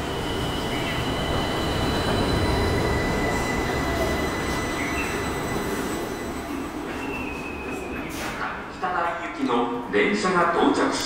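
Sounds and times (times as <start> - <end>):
monorail train rolling rumble: 0.0 - 11.0.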